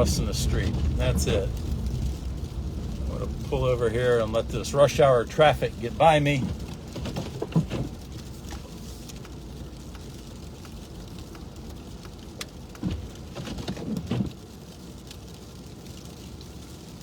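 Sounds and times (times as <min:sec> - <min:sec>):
sleet ticking on windshield: 0:00.0 - 0:14.3
car rumble inside cabin: 0:00.0 - 0:14.4.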